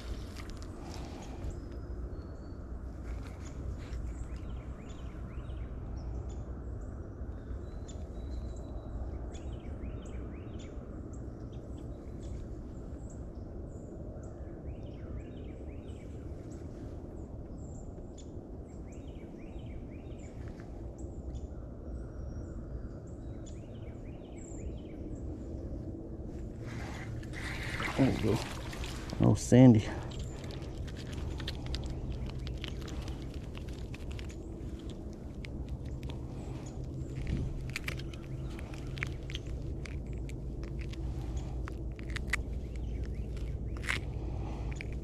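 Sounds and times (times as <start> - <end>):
birds chirping and trilling: 0.0 - 45.0
steady low rumble: 0.0 - 45.0.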